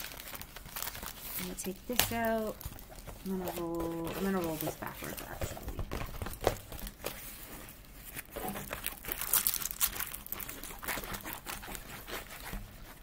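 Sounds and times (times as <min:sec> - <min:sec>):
canvas rustling and crinkling: 0:00.0 - 0:13.0.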